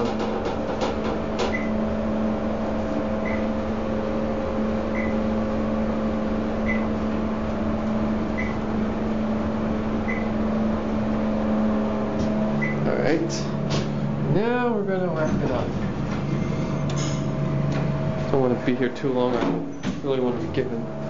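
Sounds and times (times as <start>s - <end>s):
elevator machine hum: 0.0s - 21.0s.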